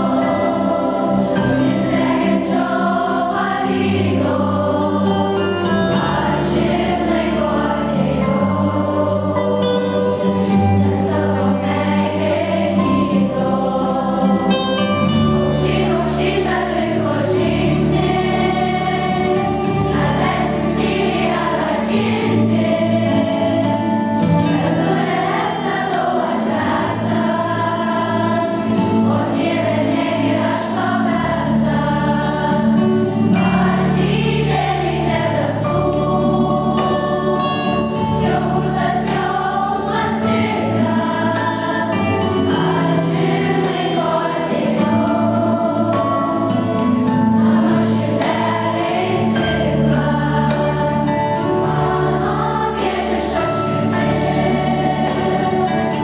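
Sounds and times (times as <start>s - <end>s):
children's choir singing: 0.0s - 56.0s
low held accompaniment notes: 0.0s - 56.0s.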